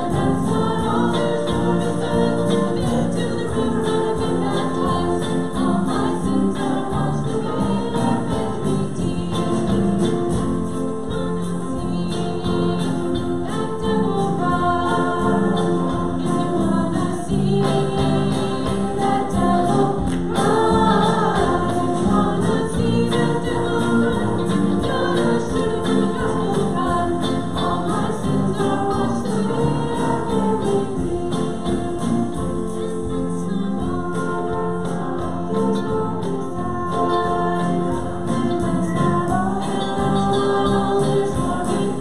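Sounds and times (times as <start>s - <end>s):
congregation singing a hymn: 0.0s - 42.0s
instrumental accompaniment: 0.0s - 42.0s.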